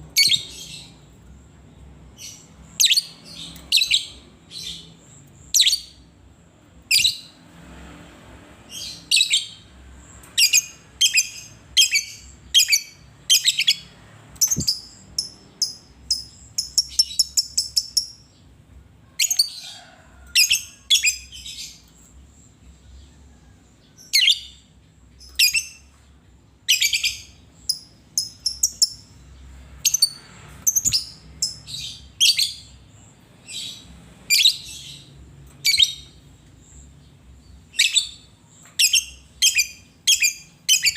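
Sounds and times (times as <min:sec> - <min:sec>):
lovebird chirping: 0:00.0 - 0:01.3, 0:02.1 - 0:06.0, 0:08.7 - 0:18.5, 0:19.2 - 0:19.6, 0:20.4 - 0:22.6, 0:23.9 - 0:25.9, 0:26.6 - 0:40.9.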